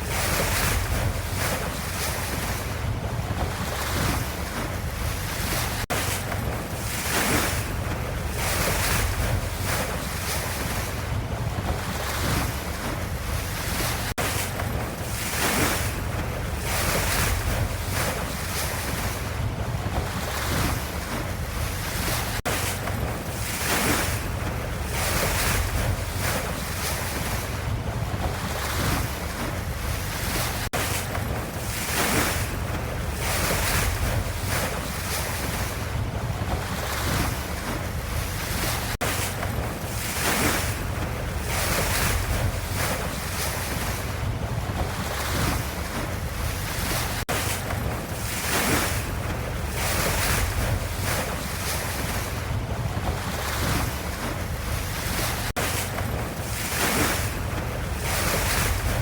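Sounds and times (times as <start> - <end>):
ocean waves surf rushing: 0.0 - 59.0.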